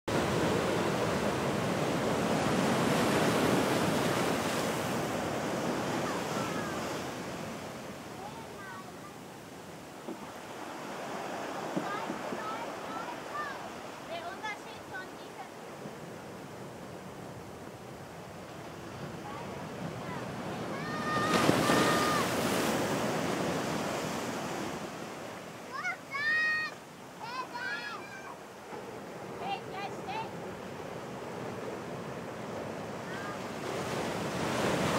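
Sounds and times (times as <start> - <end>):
ocean surf breaking: 0.1 - 34.9
wave crashing on rocks: 0.1 - 34.9.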